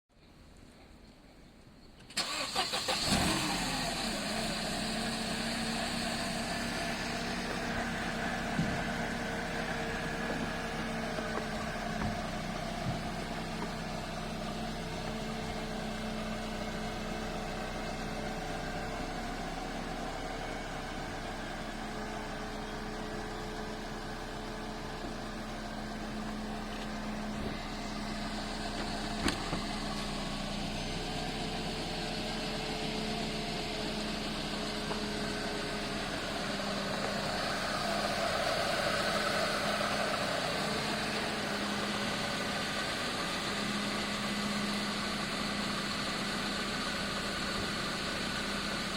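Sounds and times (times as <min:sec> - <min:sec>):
car engine idling: 0:00.5 - 0:48.9.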